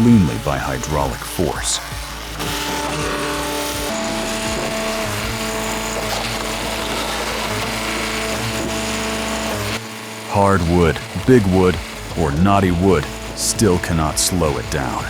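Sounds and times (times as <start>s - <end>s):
hydraulic log splitter running: 0.0s - 15.0s.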